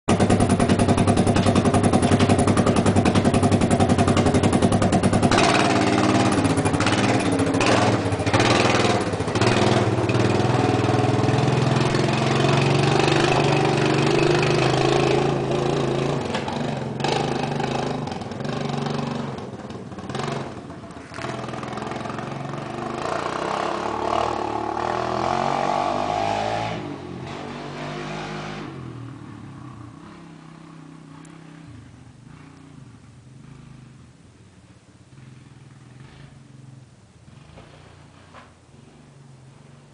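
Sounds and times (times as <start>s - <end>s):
atv engine idling and revving: 0.1s - 39.9s.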